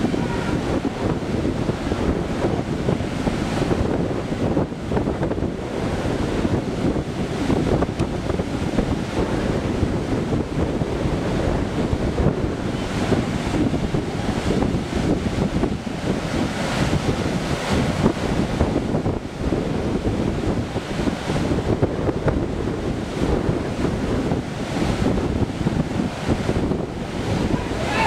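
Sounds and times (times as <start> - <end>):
ocean surf rushing: 0.0 - 28.0
wind buffeting microphone: 0.0 - 28.0.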